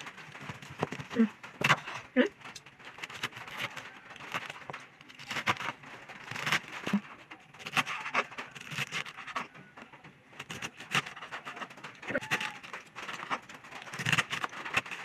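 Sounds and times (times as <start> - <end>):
knife cutting crunchy cabbage: 0.0 - 9.7, 10.4 - 15.0.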